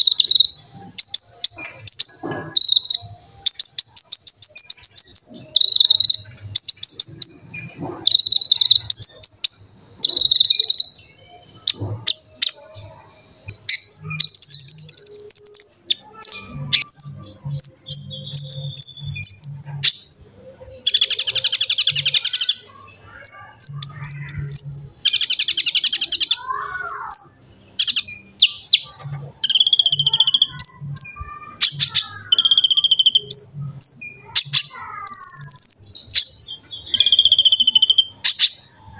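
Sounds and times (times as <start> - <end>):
sunbird trilling and chirping: 0.0 - 38.9.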